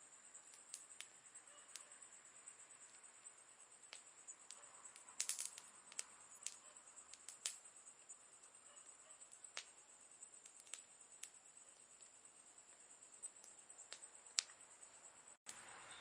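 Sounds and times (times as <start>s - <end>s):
campfire crackling and popping: 0.2s - 14.7s.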